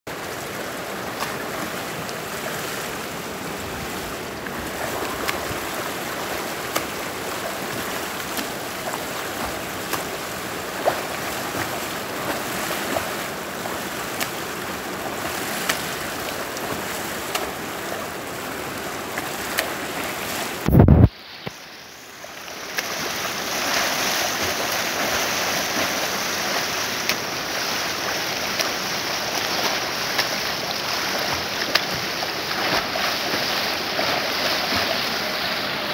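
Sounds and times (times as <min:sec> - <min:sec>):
pool water splashing: 0:00.1 - 0:35.9.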